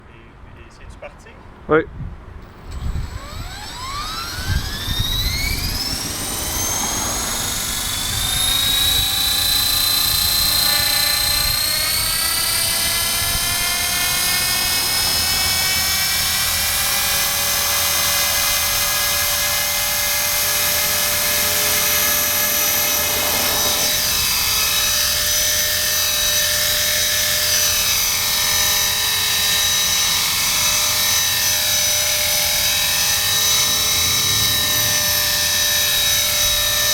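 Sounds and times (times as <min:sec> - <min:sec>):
rc helicopter motor whine: 0:02.4 - 0:36.9.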